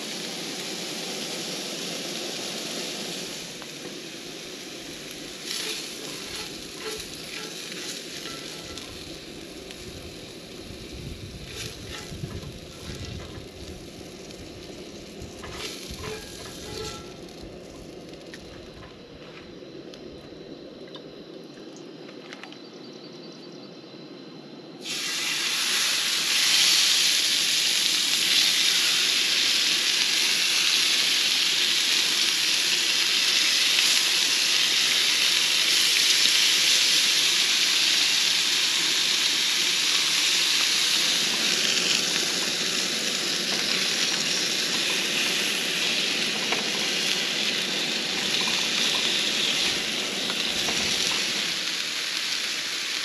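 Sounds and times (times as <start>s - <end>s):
chicken sizzling in oil: 0.0s - 17.3s, 24.8s - 53.0s.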